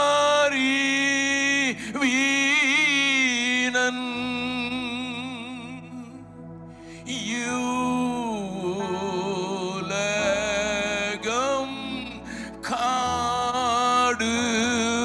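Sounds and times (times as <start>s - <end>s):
man singing into a microphone: 0.0s - 6.3s, 7.0s - 15.0s
faint low drone: 0.0s - 15.0s.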